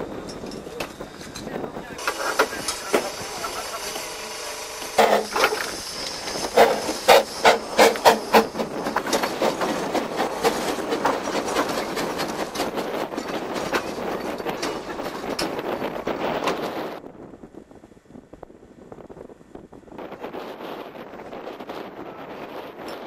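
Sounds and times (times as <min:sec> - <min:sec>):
train wheels rattling on rails: 0:00.0 - 0:17.0, 0:20.0 - 0:23.0.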